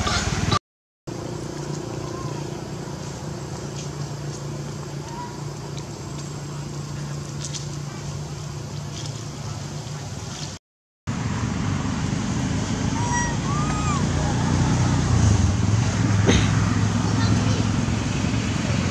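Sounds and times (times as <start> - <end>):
low motor hum: 0.0 - 18.9.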